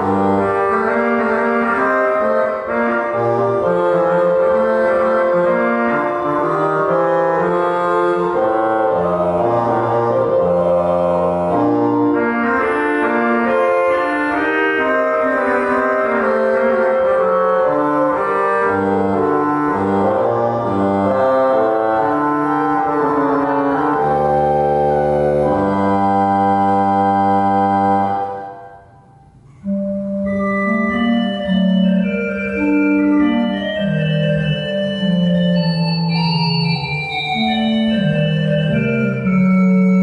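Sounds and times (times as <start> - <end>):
organ chords in church: 0.0 - 40.0.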